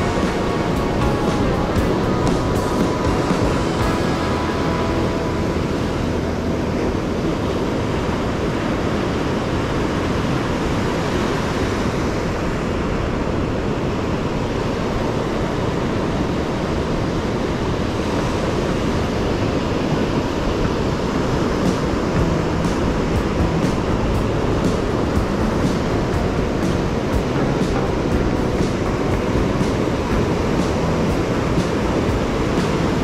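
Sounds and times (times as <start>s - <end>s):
ocean surf washing onto beach: 0.0s - 33.0s.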